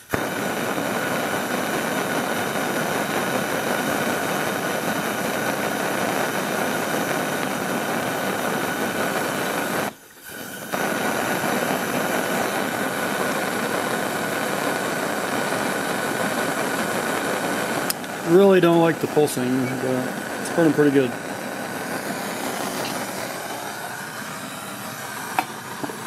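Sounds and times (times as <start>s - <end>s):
pressure lantern hissing: 0.0s - 26.0s.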